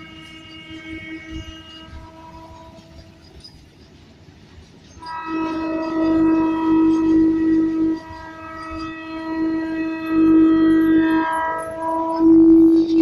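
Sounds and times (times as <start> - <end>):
locomotive horn blast: 0.0 - 3.3, 5.0 - 13.0.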